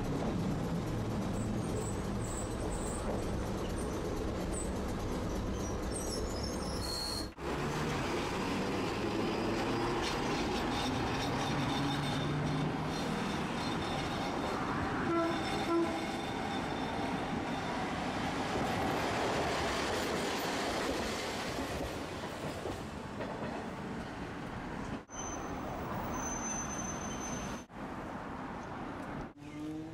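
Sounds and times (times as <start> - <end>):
streetcar wheels rumbling: 0.0 - 27.7.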